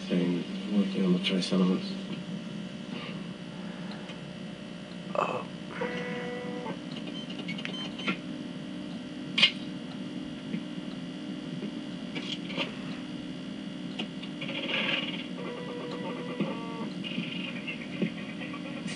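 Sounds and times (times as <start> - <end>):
spacecraft ambience hum: 0.0 - 18.9.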